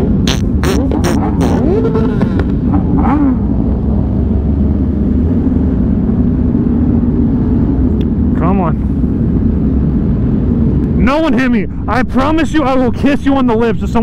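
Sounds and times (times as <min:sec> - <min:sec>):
motorcycle engines running: 0:00.0 - 0:12.1.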